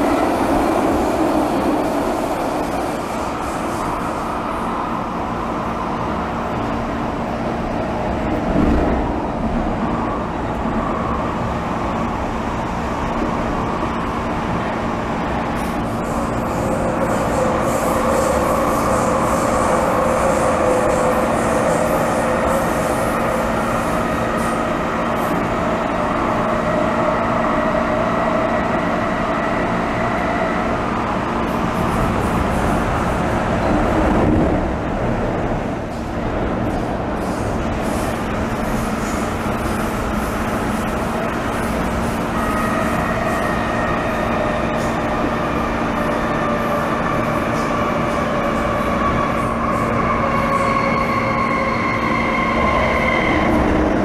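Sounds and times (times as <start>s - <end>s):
train hum: 0.0s - 54.0s
train wheels rumbling on rail: 0.0s - 54.0s.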